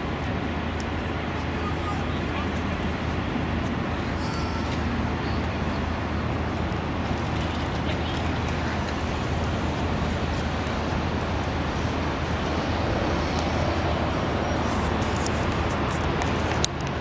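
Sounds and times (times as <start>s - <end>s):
low engine rumble: 0.0s - 17.0s
urban noise: 0.0s - 17.0s.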